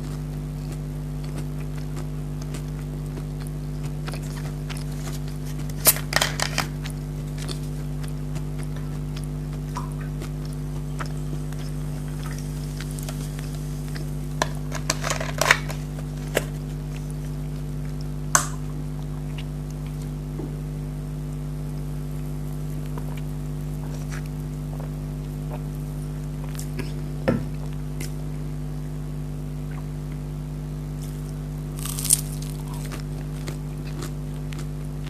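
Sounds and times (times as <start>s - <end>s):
crunching while eating: 0.0s - 20.7s, 21.3s - 28.7s, 29.6s - 35.0s
steady low hum: 0.0s - 35.0s.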